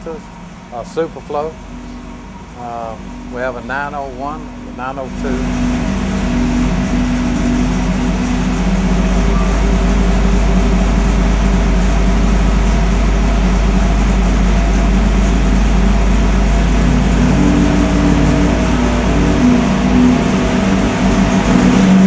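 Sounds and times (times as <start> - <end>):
vee-eight engine running on dyno: 0.0 - 22.0.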